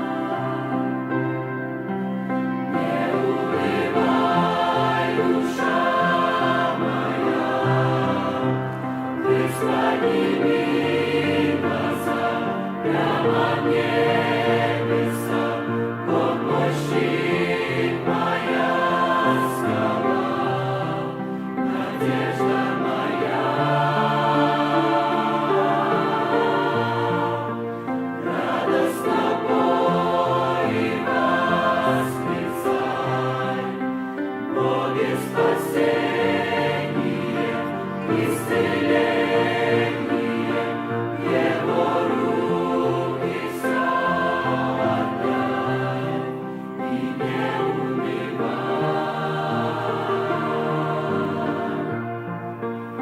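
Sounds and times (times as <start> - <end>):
choir singing a hymn: 0.0 - 53.0.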